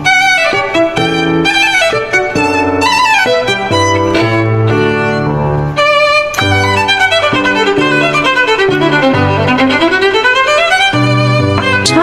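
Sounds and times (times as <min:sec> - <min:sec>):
violin melody: 0:00.0 - 0:12.0.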